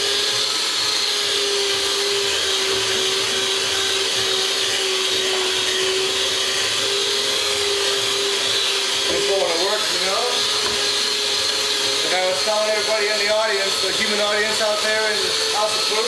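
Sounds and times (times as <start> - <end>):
electric hand mixer whining: 0.0 - 16.0.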